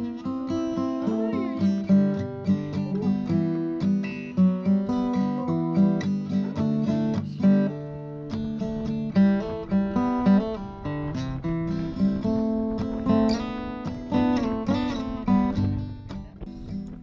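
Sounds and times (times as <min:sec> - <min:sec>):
acoustic guitar plucking: 0:00.0 - 0:17.0.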